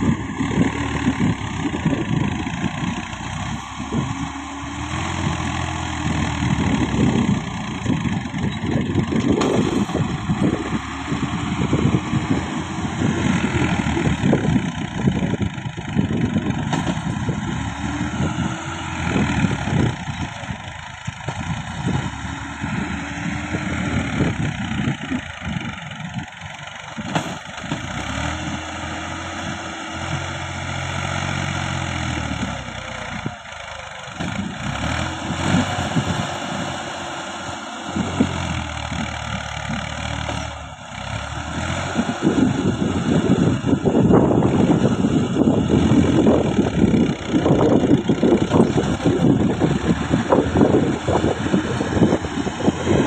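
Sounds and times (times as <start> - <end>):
tractor diesel engine working hard: 0.0 - 53.0.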